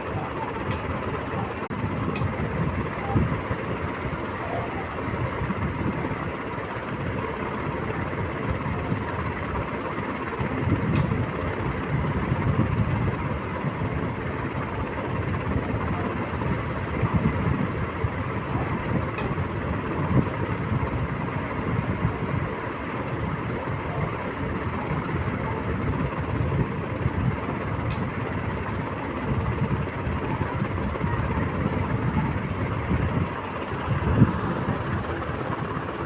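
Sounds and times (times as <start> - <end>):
electric fan rumble: 0.0 - 36.0.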